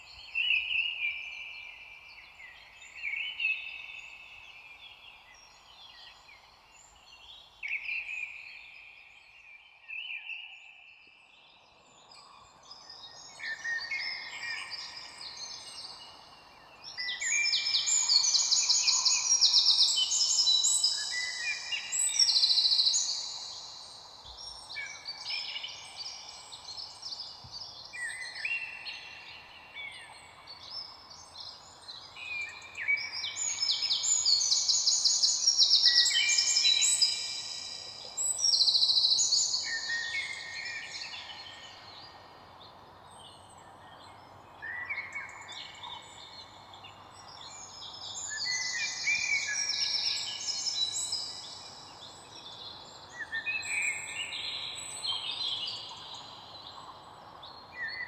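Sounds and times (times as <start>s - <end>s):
faint background hiss: 0.0s - 58.0s
songbirds chirping and trilling: 0.0s - 58.0s.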